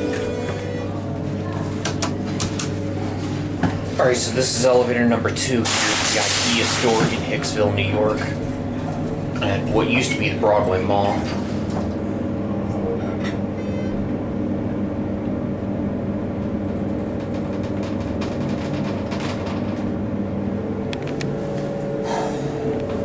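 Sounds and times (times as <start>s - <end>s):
elevator mechanical hum: 0.0s - 23.0s.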